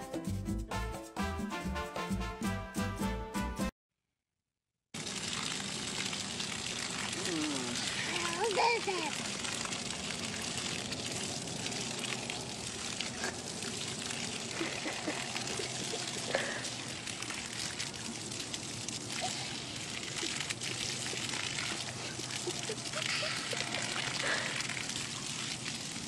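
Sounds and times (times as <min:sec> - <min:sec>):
hose spraying water onto grass: 0:05.0 - 0:26.0.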